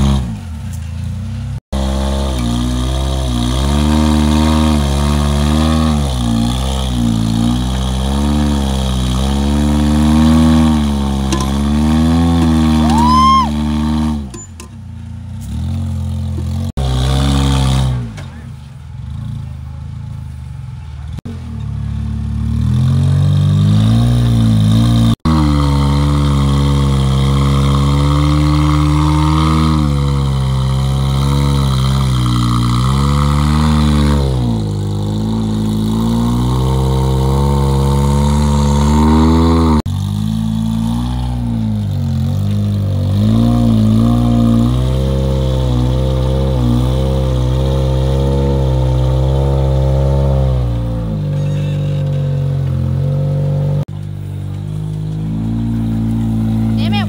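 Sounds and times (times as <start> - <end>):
buggy engine revving: 0.0 - 57.0.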